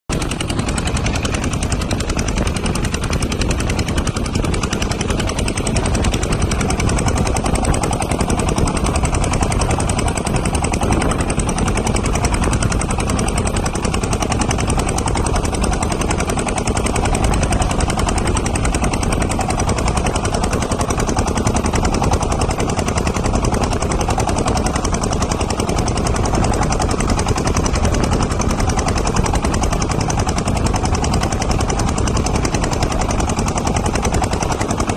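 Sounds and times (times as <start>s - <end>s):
boat engine knocking: 0.1s - 34.9s.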